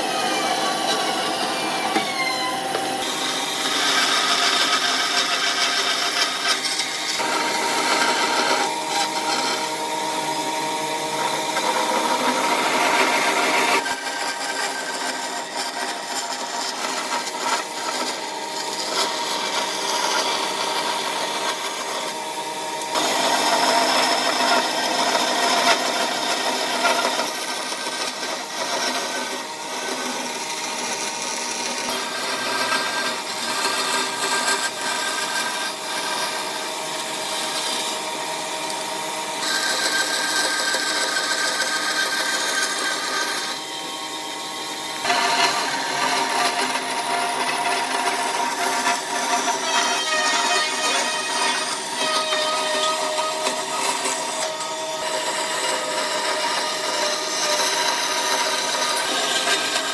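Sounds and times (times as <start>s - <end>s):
tool rasping against wood: 0.0s - 22.2s, 22.9s - 38.0s, 39.4s - 43.6s, 45.0s - 59.9s
power tool motor running: 0.0s - 59.9s.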